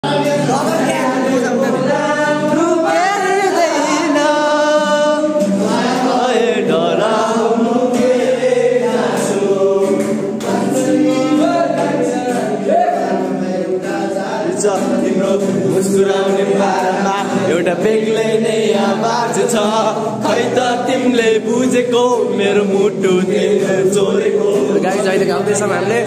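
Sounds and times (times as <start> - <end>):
acoustic guitar: 0.0 - 26.0
young men singing loudly: 0.0 - 26.0.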